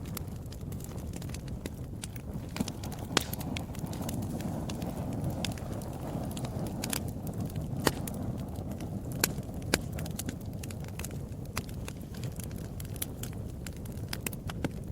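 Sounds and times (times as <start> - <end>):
fire crackles and pops: 0.0 - 14.9
wood fire burning: 0.0 - 14.9.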